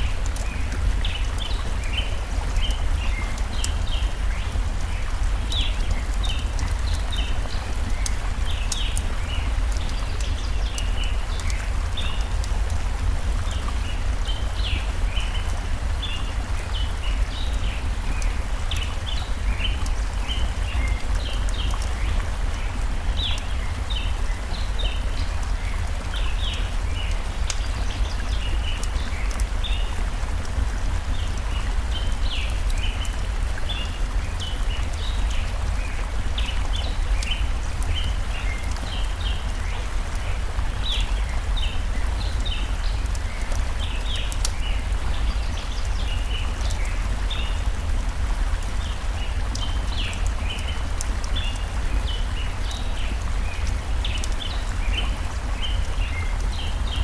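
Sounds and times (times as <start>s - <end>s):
campfire crackling: 0.0s - 57.0s
small birds chirping: 0.0s - 57.0s
stream rushing: 0.0s - 57.0s.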